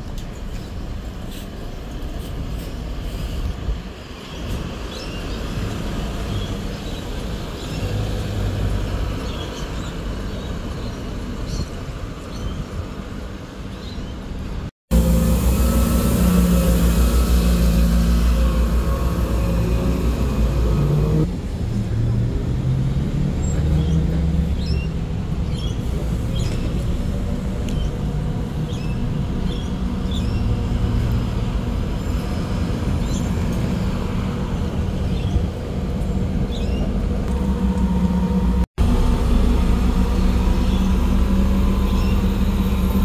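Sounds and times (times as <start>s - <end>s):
bus engine running: 0.0s - 43.0s.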